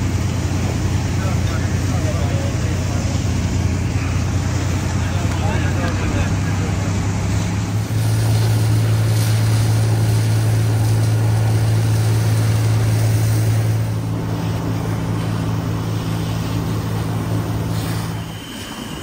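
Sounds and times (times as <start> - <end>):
engine low drone: 0.0 - 19.0
hose spraying water: 0.0 - 19.0.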